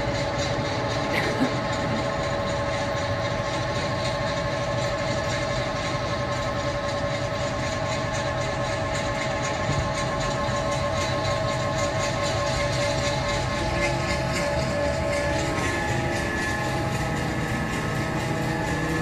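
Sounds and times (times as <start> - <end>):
electronic drone music: 0.0 - 19.0.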